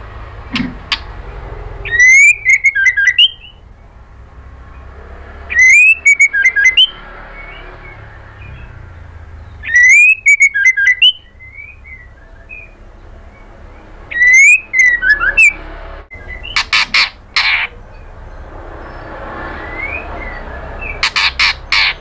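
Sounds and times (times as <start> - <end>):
harsh rasping bird notes: 0.0 - 22.0
bird whistling calls: 1.8 - 3.6, 5.5 - 22.0.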